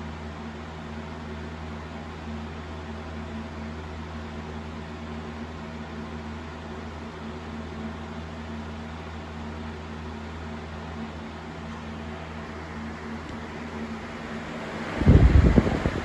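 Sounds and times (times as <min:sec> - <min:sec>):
box fan running: 0:00.0 - 0:16.0.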